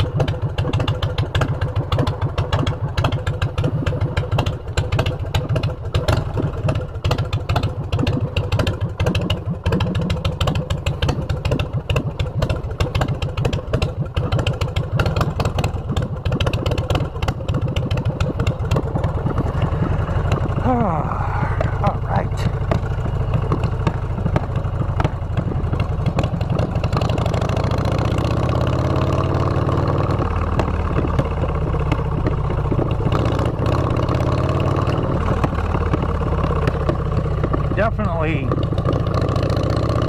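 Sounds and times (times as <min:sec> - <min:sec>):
loud motorcycle engine: 0:00.0 - 0:40.0.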